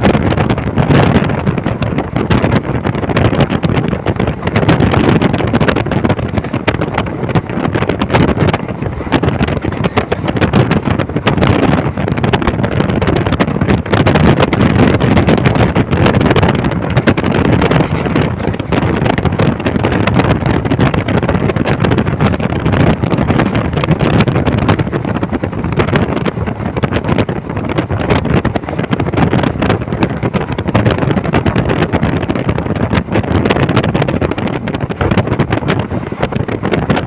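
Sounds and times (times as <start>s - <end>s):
passenger train running: 0.0s - 37.0s
wind buffeting microphone: 0.0s - 37.0s.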